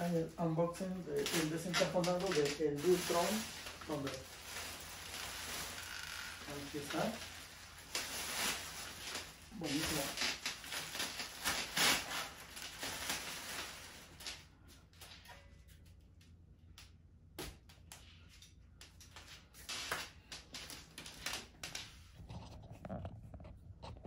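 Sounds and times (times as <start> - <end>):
plastic packaging rustling: 0.0 - 15.2, 19.1 - 23.4.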